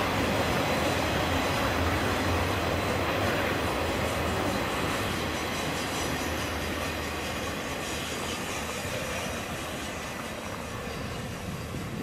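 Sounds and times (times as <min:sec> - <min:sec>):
freight train wheel rumble: 0:00.0 - 0:12.0.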